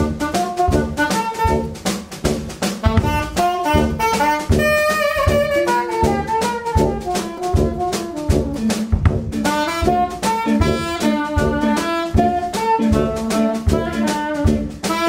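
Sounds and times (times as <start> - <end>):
tenor saxophone melody: 0.0 - 2.0, 2.8 - 15.0
drum kit beat: 0.0 - 15.0
tuba: 0.0 - 15.0
electric guitar: 2.8 - 15.0.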